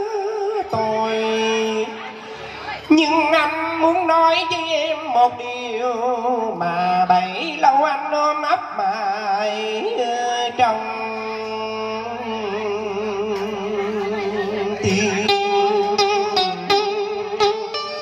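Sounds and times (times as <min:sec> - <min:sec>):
man singing with vibrato: 0:00.0 - 0:18.0
plucked string instrument: 0:00.0 - 0:18.0.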